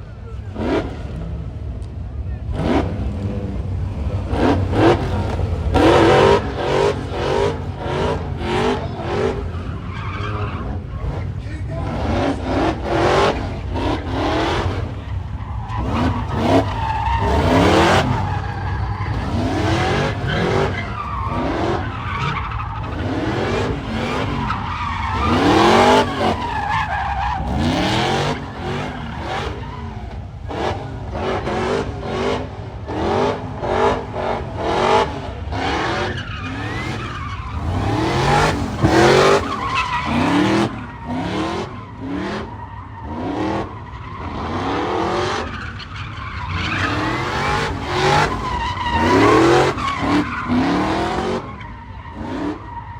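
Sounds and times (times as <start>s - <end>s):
car engines revving: 0.0s - 52.9s
tyres skidding: 0.0s - 52.9s.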